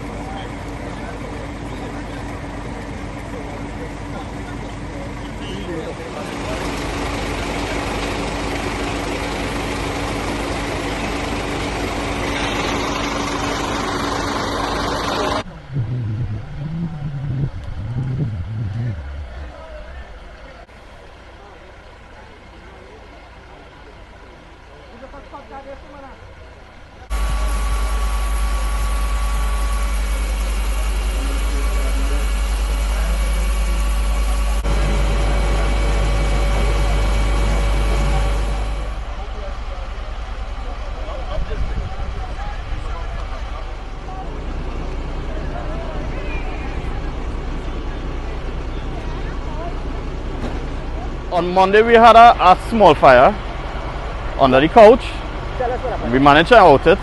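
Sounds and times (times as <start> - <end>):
large engine humming: 0.0 - 57.0.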